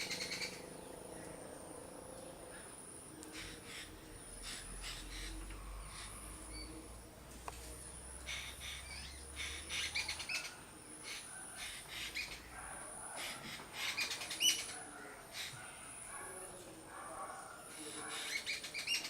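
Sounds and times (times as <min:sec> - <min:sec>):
bird chirping: 0:00.0 - 0:07.1, 0:07.8 - 0:19.0.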